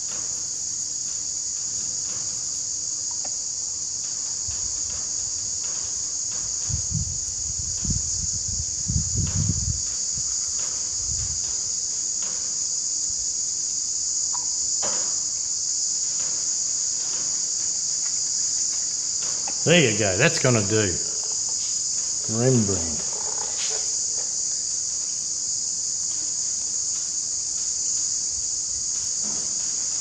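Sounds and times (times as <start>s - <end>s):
insect chirring: 2.4s - 30.0s.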